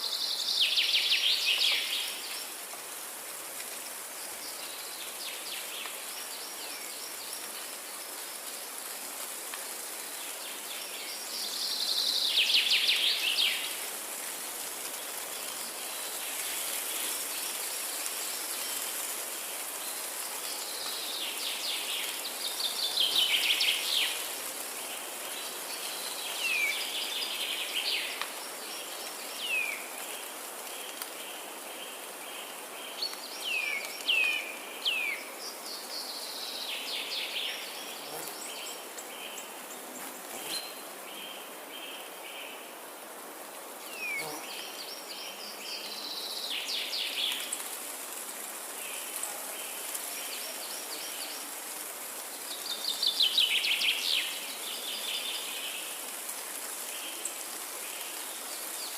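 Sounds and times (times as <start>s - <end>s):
steady high-pitched hiss: 0.0s - 58.9s.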